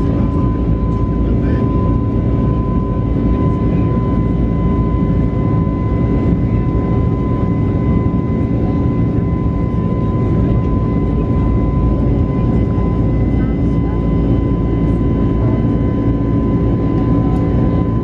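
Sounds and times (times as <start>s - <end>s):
aircraft cabin rumble and rush: 0.0s - 18.0s
steady engine whine: 0.0s - 18.0s.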